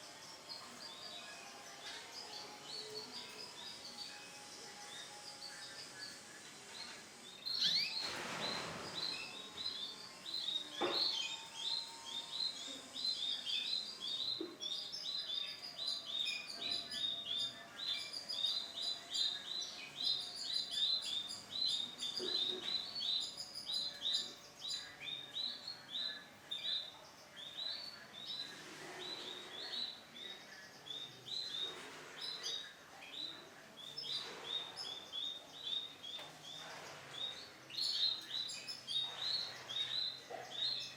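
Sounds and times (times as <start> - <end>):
canary singing chirps and trills: 0.0 - 40.9.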